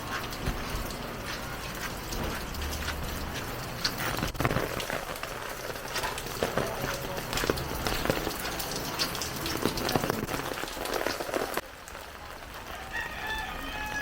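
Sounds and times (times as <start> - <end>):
drips and taps on surfaces: 0.0 - 14.0
heavy rain falling: 0.0 - 14.0.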